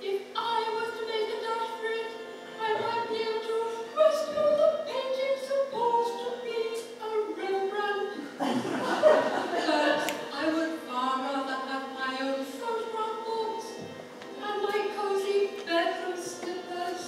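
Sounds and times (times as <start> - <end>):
woman singing a hymn: 0.0 - 8.4, 9.0 - 17.0
organ accompaniment: 0.0 - 17.0.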